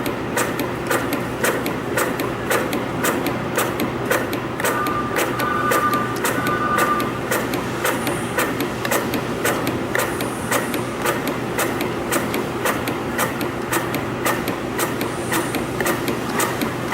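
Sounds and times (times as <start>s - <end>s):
spring coiling machine clicking: 0.0s - 16.9s
steady mechanical hum: 0.0s - 16.9s.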